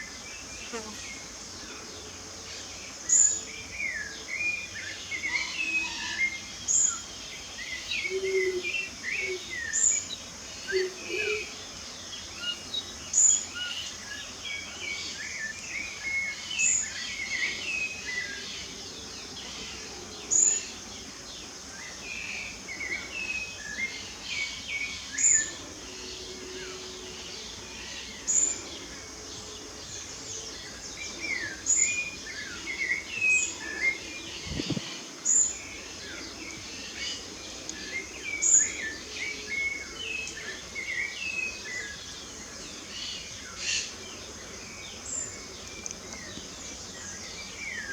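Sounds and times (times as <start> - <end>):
songbirds chirping: 0.0 - 47.9
steady background hiss: 0.0 - 47.9.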